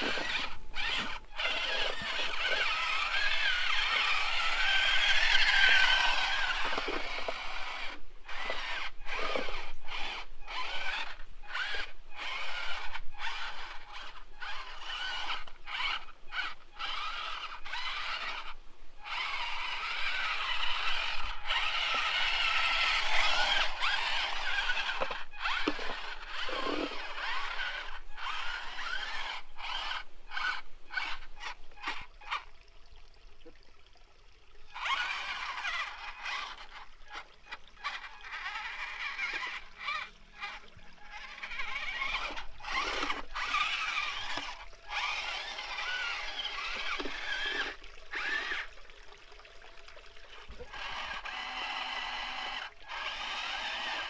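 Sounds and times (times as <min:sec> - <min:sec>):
tracks squeaking and creaking: 0:00.0 - 0:32.4, 0:34.8 - 0:48.8
toy electric motors whining: 0:00.0 - 0:32.5, 0:34.7 - 0:48.8, 0:49.6 - 0:54.0.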